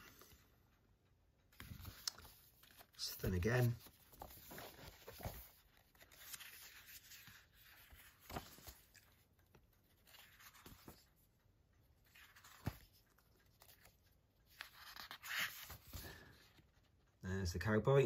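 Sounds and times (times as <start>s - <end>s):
paper pages rustling: 0.0s - 0.6s, 1.4s - 17.2s.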